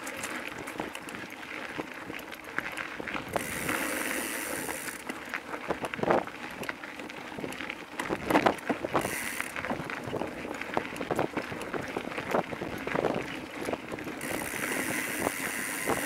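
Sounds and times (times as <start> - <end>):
bike rolling over dirt trail: 0.0 - 16.0
freewheel buzzing: 0.0 - 16.0.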